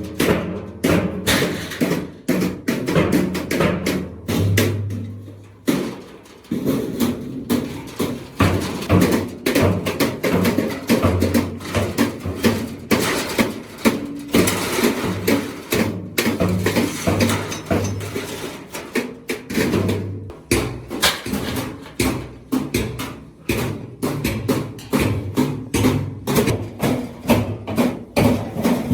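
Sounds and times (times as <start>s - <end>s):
hammer clanging on sheet steel: 0.0s - 28.9s.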